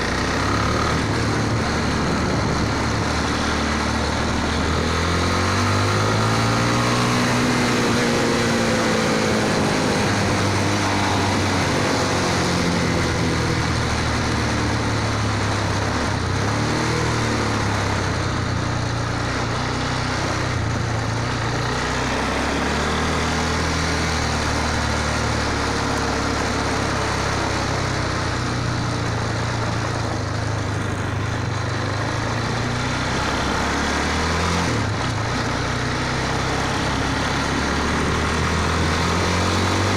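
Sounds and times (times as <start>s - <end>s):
constant rush of noise: 0.0s - 39.9s
motorcycle engine revving: 0.0s - 39.9s.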